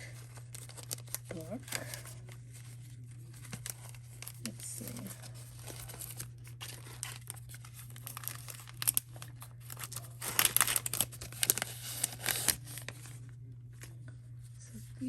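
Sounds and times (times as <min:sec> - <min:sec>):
sticker packaging crinkling: 0:00.0 - 0:13.2.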